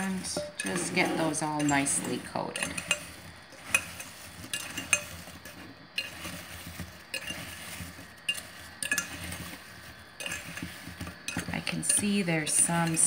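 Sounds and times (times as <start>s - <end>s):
soft stirring of apple slices: 0.0s - 13.0s
utensil clinking on glass bowl: 0.0s - 13.0s.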